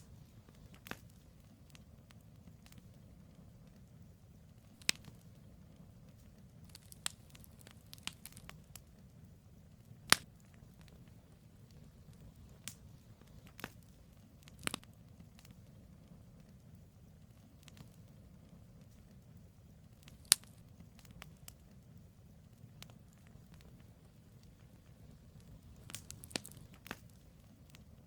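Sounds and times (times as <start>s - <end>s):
campfire crackling and popping: 0.0s - 28.0s
low rumble of fire: 0.0s - 28.0s.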